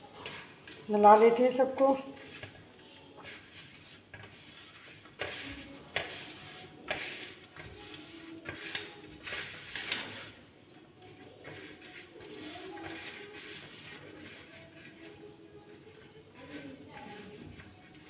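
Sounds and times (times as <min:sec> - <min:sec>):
hand kneading sticky mixture: 0:00.0 - 0:18.0.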